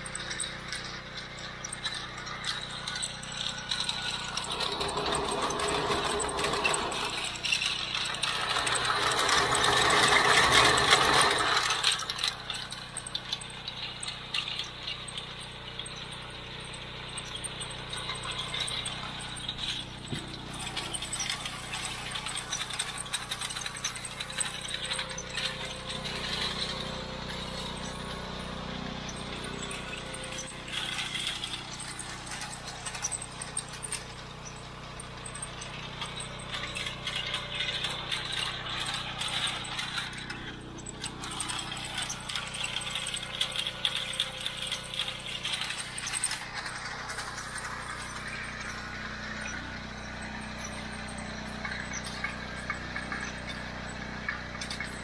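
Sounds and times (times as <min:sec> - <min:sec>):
hay elevator chain rattling: 0:00.0 - 0:55.0
low machine hum: 0:00.0 - 0:55.0.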